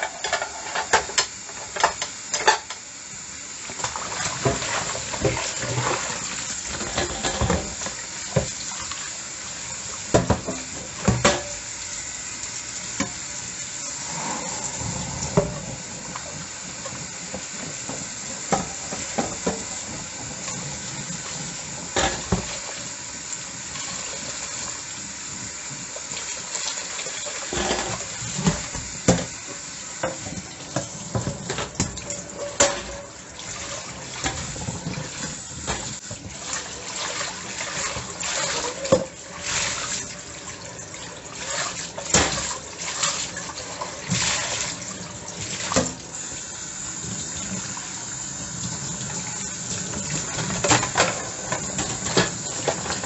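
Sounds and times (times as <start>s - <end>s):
tap water running into sink: 0.3s - 53.0s.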